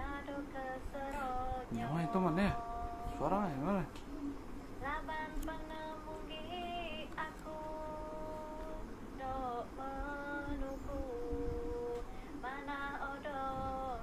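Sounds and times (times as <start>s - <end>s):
woman singing long held notes: 0.0s - 3.2s, 4.8s - 14.0s.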